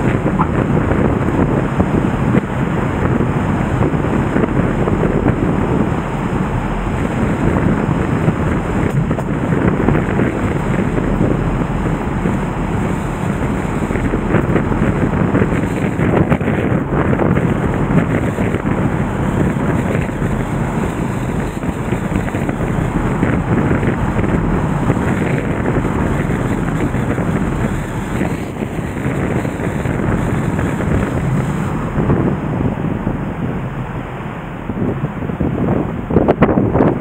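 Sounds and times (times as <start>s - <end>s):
river water rushing: 0.0s - 36.2s.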